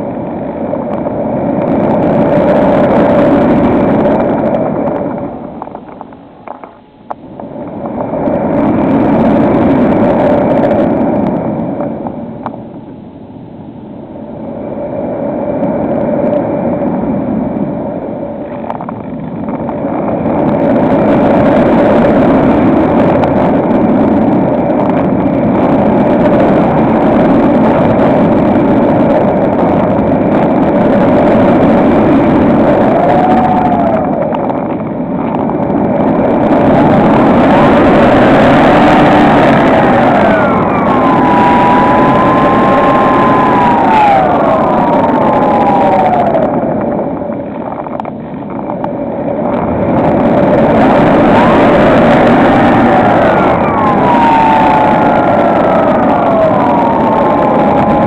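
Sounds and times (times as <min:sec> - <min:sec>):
electric motor and propeller hum: 0:00.0 - 0:58.0.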